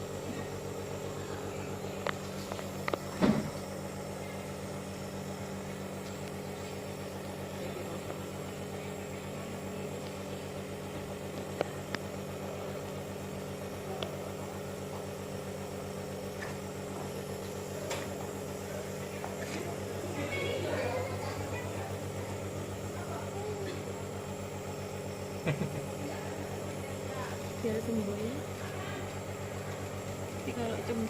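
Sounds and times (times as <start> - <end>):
compressor electric hum: 0.0 - 31.0.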